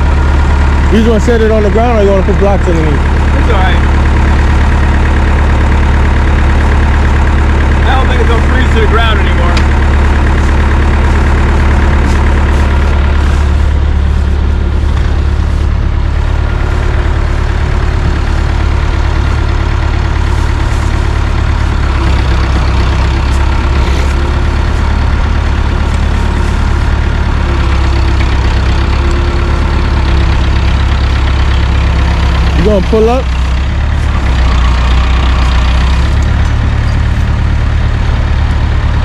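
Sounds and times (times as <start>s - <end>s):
heavy vehicle engine idling: 0.0s - 39.0s.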